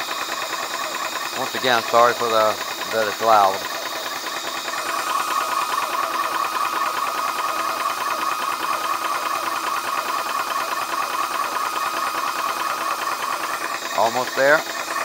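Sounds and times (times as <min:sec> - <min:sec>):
air compressor pulsing: 0:00.0 - 0:15.0.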